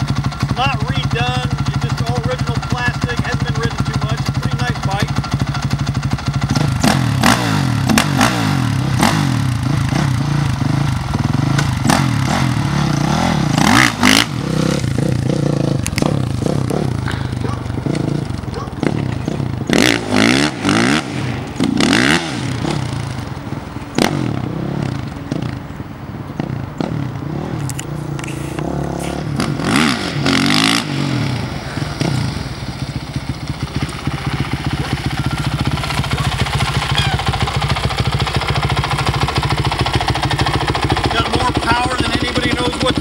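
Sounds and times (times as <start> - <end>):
dirt bike engine revving: 0.0 - 25.8, 26.4 - 43.0.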